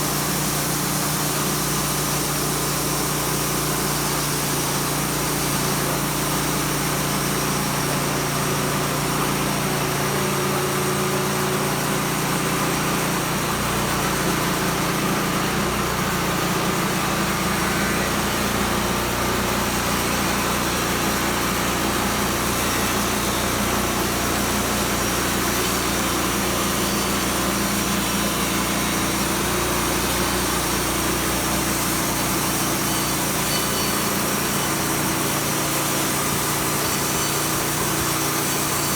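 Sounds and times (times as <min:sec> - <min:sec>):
sawmill petrol engine running: 0:00.0 - 0:38.9.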